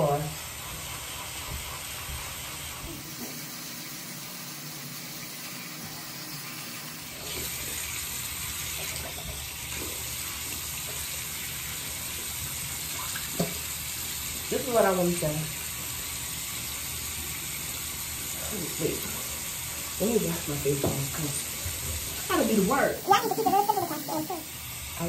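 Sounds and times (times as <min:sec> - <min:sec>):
faucet running into sink: 0:00.0 - 0:25.0.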